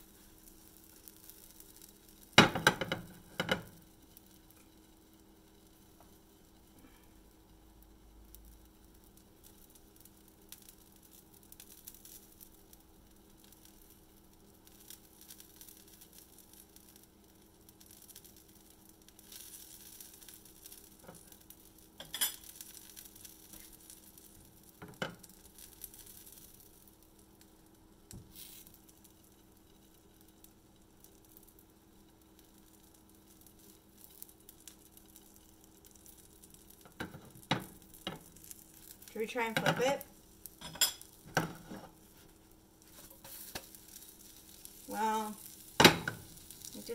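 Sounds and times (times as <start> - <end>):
pancake sizzling in pan: 0.0 - 46.9.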